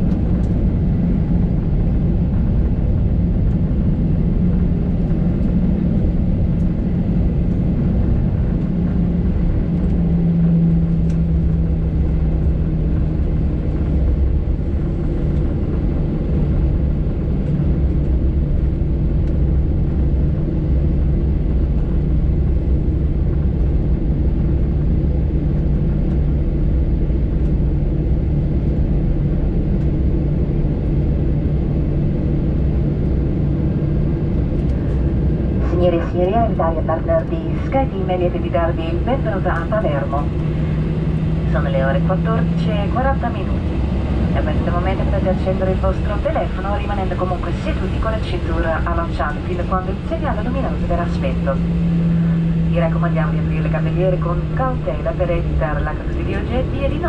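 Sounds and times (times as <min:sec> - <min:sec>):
jet engines idling: 0:00.0 - 0:57.0.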